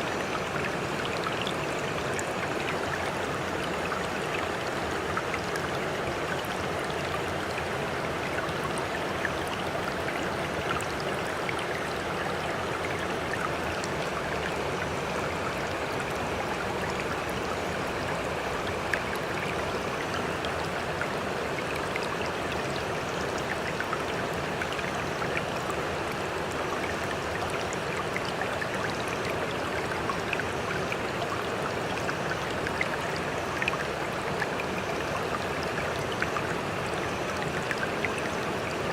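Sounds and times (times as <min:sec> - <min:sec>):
sea water trickling and splashing: 0:00.0 - 0:38.9.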